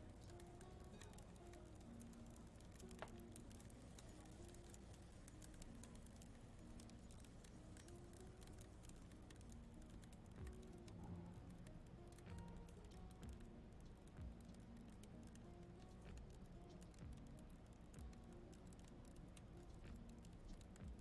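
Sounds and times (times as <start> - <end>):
faint background music: 0.0 - 21.0
small clicks: 0.0 - 21.0.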